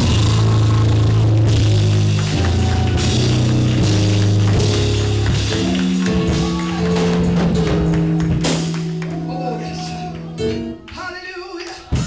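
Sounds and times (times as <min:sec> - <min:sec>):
drum kit: 0:00.0 - 0:12.0
live band music: 0:00.0 - 0:12.0.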